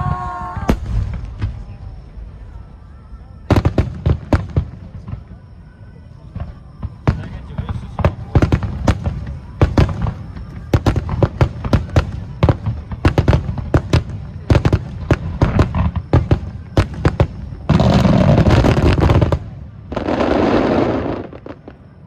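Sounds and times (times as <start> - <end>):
fireworks bangs and pops: 0.0 - 2.2, 3.4 - 5.6, 6.2 - 22.0
thick continuous fireworks noise: 0.0 - 22.0.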